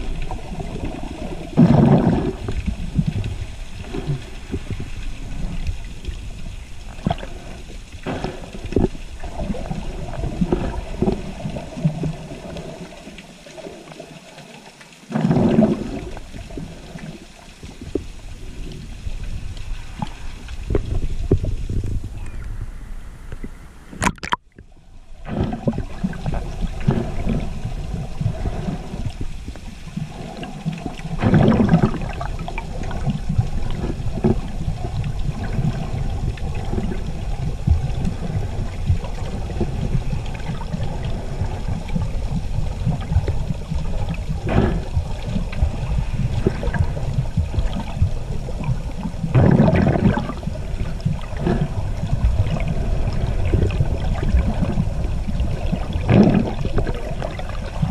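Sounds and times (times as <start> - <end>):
splash: 0.0 - 18.8, 23.9 - 57.9
muffled underwater water sloshing: 0.0 - 57.9.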